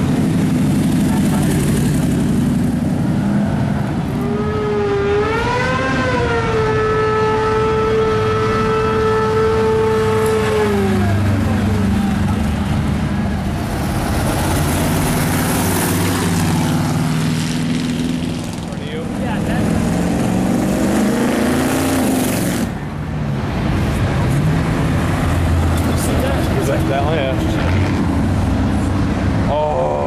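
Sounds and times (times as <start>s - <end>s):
cars driving past: 0.0s - 30.0s.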